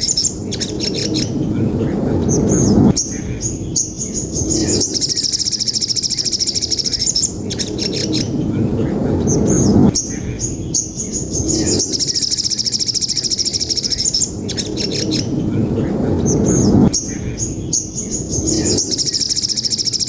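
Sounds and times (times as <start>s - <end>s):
bird chirps: 0.0s - 1.4s, 2.3s - 8.4s, 9.3s - 15.4s, 16.2s - 20.0s
low background rumble: 0.0s - 20.0s
songbird chattering trills: 0.0s - 20.0s.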